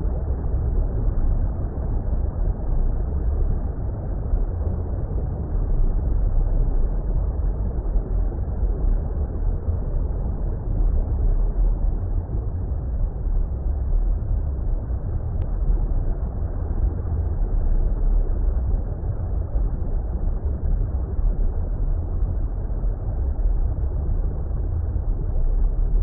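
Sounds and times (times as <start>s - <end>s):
deep water rumble: 0.0s - 26.0s.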